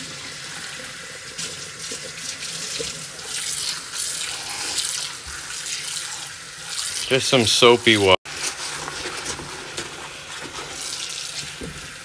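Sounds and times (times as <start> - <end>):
faucet running into a bucket: 0.0 - 8.2, 10.0 - 12.0.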